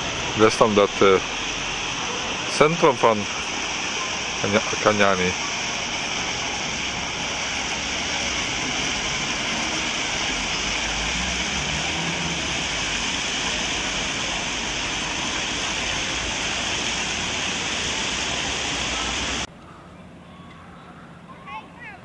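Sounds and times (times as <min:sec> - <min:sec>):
fountain water splashing: 0:00.0 - 0:19.5.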